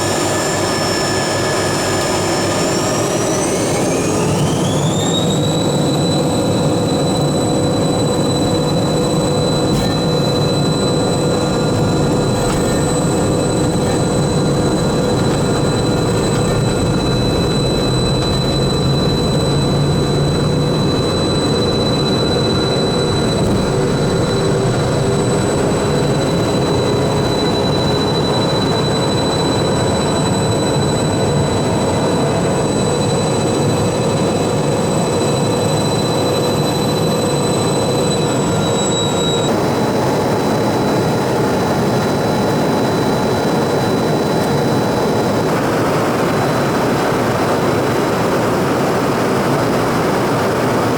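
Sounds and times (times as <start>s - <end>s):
high fan whine: 0.0s - 50.9s
jet engines roaring: 0.0s - 50.9s.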